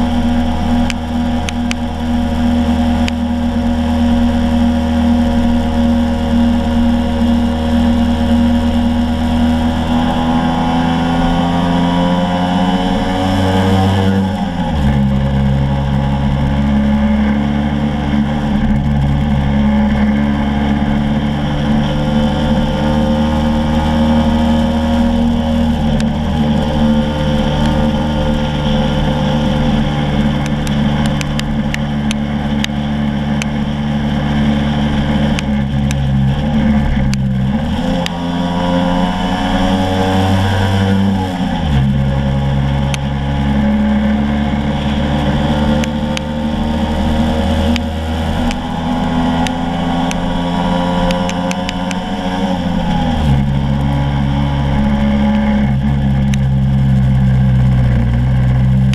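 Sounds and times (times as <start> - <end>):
scooter engine running: 0.0 - 58.9.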